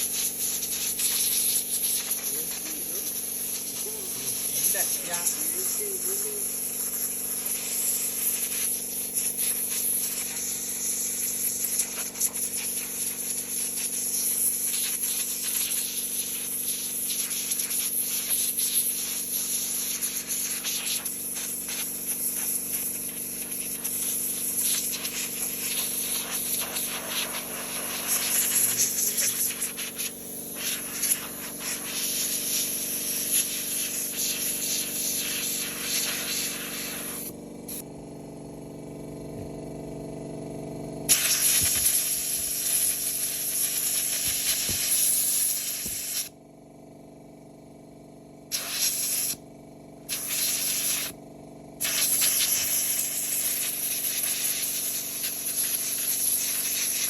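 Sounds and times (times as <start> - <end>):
compressed air hissing bursts: 0.0 - 37.8, 41.1 - 46.4, 48.5 - 49.4, 50.1 - 51.2, 51.8 - 57.0
air compressor humming: 0.0 - 57.0.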